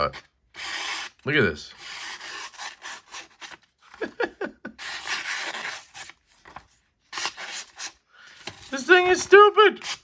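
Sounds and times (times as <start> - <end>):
knife slicing paper: 0.1 - 4.0, 4.8 - 6.2, 7.1 - 10.0
paper rustling: 1.8 - 10.0.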